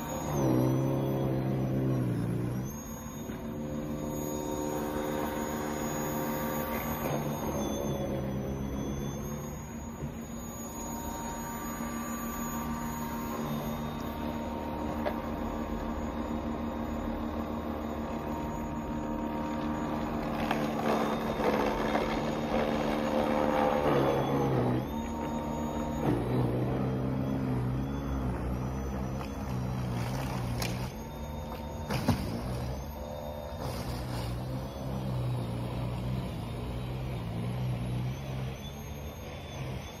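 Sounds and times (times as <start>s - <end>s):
snowblower motor whining: 0.0s - 40.0s.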